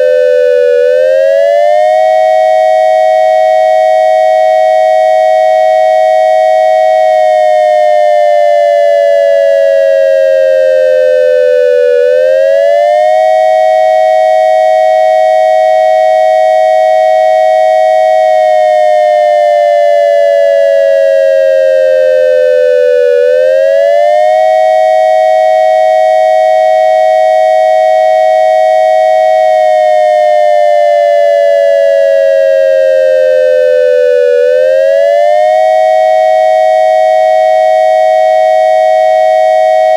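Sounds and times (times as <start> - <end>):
dual-tone electronic siren: 0.0 - 39.9.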